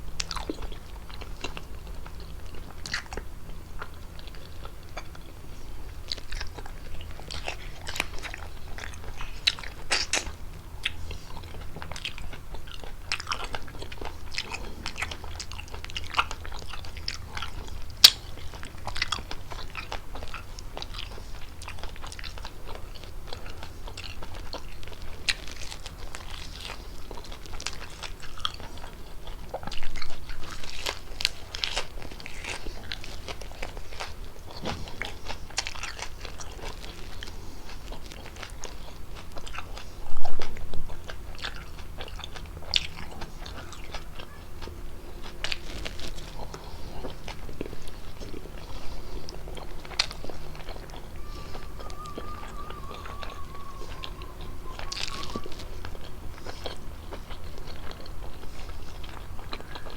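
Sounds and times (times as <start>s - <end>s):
close chewing and mouth smacks: 0.0s - 59.9s.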